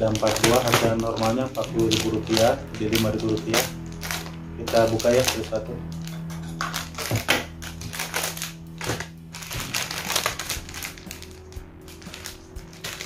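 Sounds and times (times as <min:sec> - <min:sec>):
toy packets crinkling: 0:00.0 - 0:13.0.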